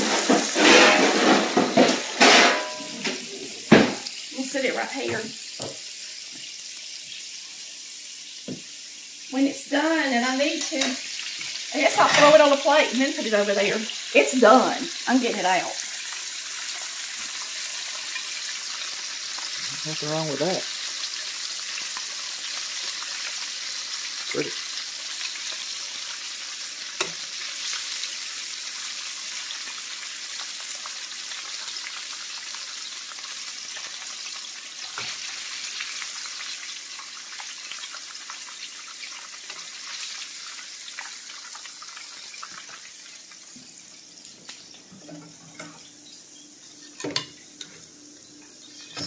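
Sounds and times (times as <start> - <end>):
food frying in hot oil: 0.0 - 49.0.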